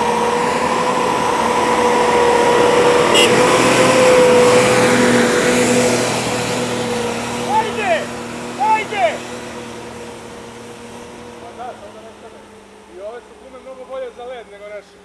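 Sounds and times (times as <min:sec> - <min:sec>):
car engine whining at high revs: 0:00.0 - 0:14.3.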